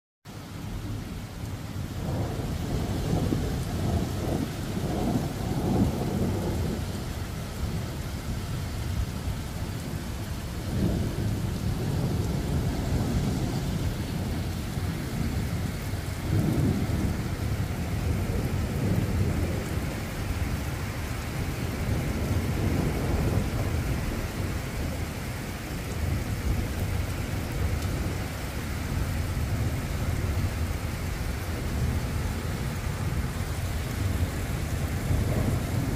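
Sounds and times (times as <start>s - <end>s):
steady rain: 0.3s - 35.9s
thunder rumbling: 1.7s - 35.9s.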